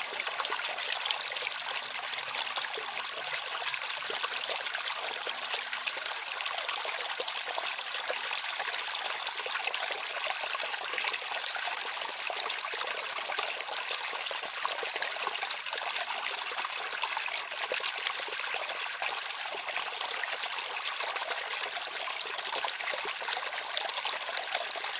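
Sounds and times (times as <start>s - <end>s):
water flowing and trickling: 0.0s - 24.9s.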